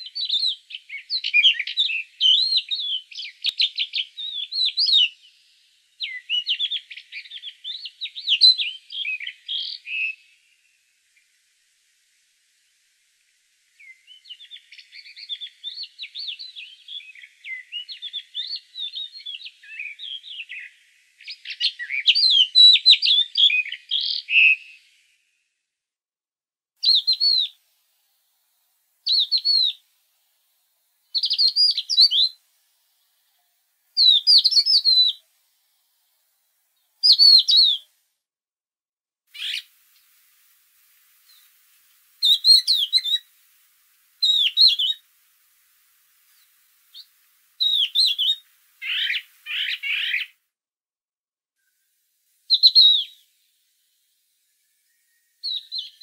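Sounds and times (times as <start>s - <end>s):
songbird singing: 0.0s - 11.6s, 12.6s - 25.1s, 26.8s - 28.3s, 29.0s - 29.8s, 31.0s - 35.4s, 36.8s - 37.9s, 39.3s - 50.4s, 52.5s - 53.4s, 54.4s - 56.0s.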